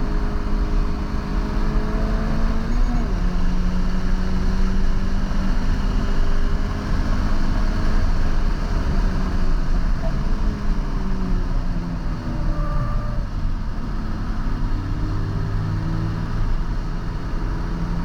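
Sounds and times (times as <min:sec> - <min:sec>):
road and tyre noise: 0:00.0 - 0:18.0.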